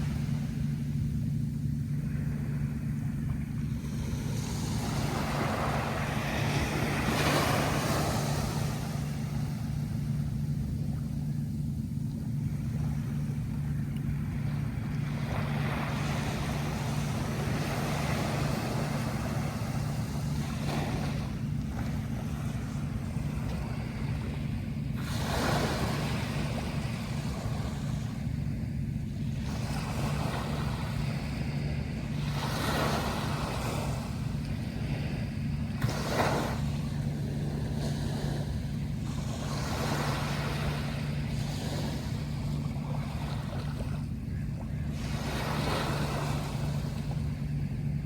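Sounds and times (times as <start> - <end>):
sea waves breaking: 0.0 - 48.0.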